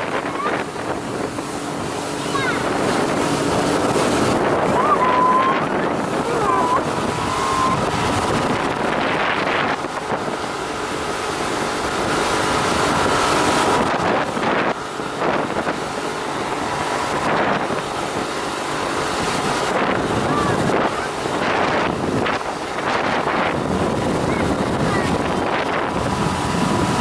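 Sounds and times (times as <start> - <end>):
motorboat engine and water rush: 0.0 - 27.0
wind buffeting microphone: 0.0 - 27.0.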